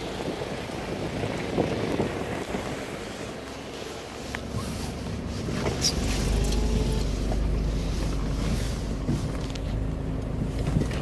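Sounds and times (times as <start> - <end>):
boat engine running: 0.0 - 11.0
water noise: 0.0 - 11.0
wind noise on microphone: 0.0 - 11.0.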